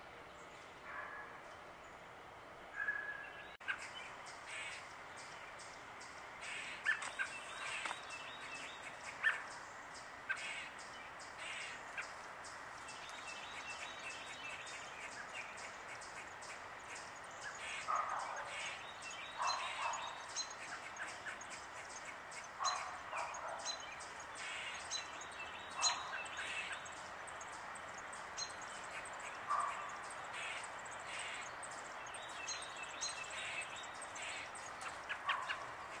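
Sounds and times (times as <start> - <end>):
birds chirping: 0.0 - 36.0
outdoor background hiss: 0.0 - 36.0.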